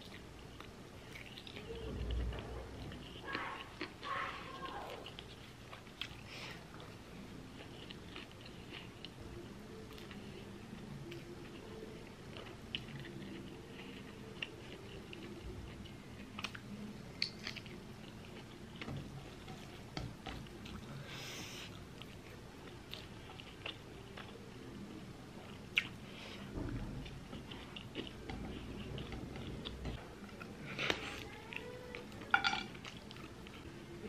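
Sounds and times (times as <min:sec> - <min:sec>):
person chewing food: 0:00.0 - 0:33.7.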